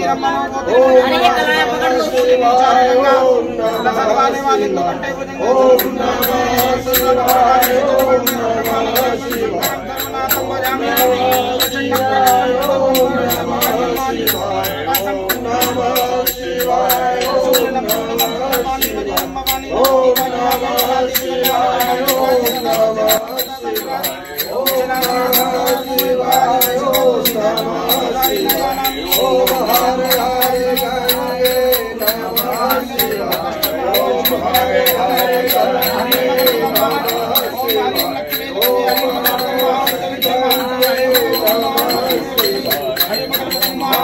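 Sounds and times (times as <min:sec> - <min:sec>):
people singing devotional song: 0:00.0 - 0:44.0
shaken rattle percussion: 0:03.6 - 0:04.2, 0:05.4 - 0:44.0.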